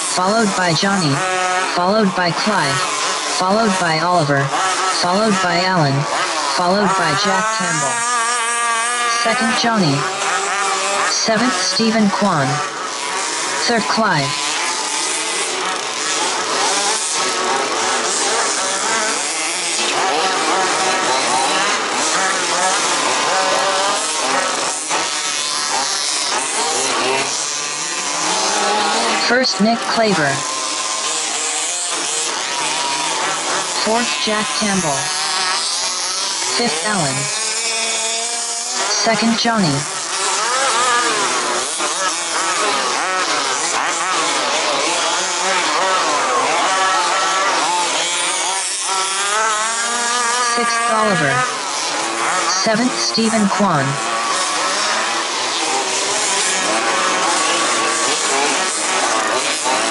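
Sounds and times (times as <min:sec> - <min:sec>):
small two-stroke engines racing: 0:00.0 - 0:59.9.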